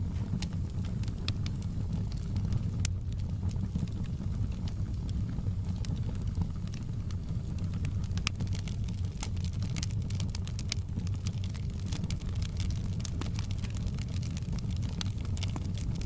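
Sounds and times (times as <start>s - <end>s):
burning logs crackling and popping: 0.0s - 16.0s
fire flames rumbling: 0.0s - 16.0s.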